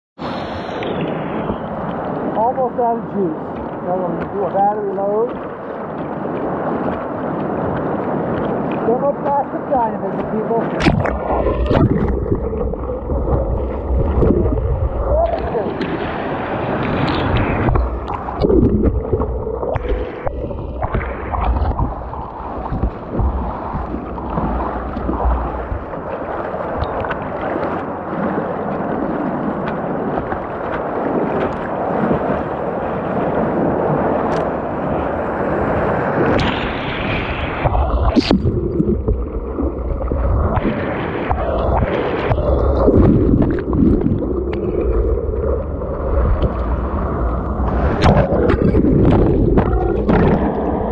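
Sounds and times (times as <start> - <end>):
waves washing over boat: 0.2 - 50.9
whitewater rushing and splashing: 0.2 - 50.9.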